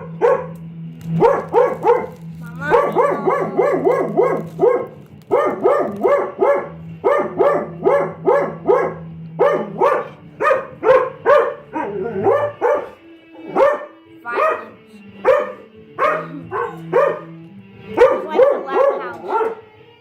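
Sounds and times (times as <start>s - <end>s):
small dog barking: 0.0s - 17.4s, 18.0s - 19.7s.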